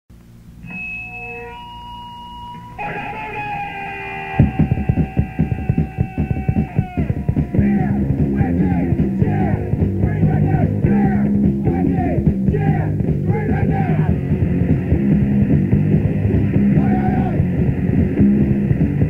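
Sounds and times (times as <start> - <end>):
drums: 2.4 - 19.0
punk rock song: 2.6 - 19.0.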